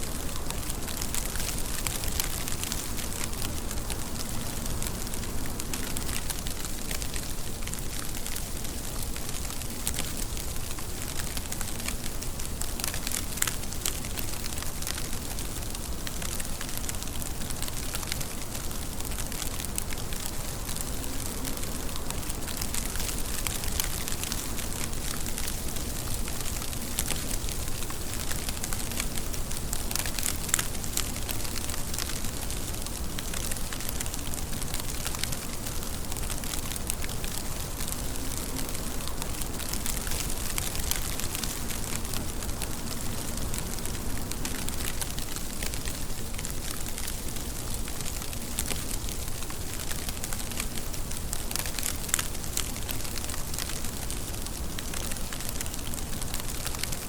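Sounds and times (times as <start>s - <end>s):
steady rain falling: 0.0s - 57.0s
raindrop ticks: 0.1s - 57.0s.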